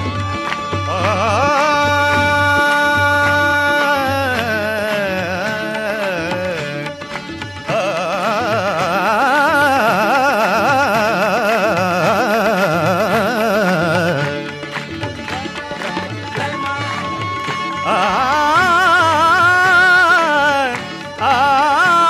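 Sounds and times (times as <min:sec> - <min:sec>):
devotional singing: 0:00.0 - 0:22.0
harmonium: 0:00.0 - 0:22.0.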